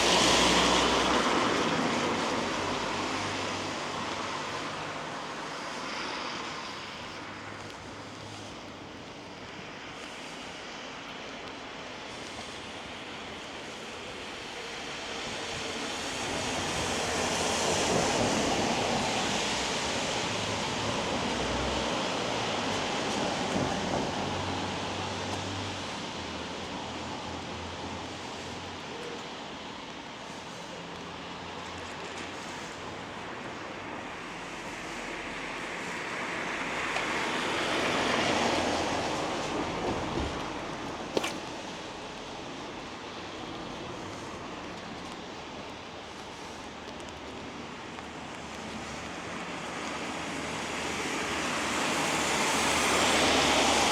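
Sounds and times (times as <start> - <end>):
rain noise: 0.0 - 53.9
tyres on a wet road: 0.0 - 53.9.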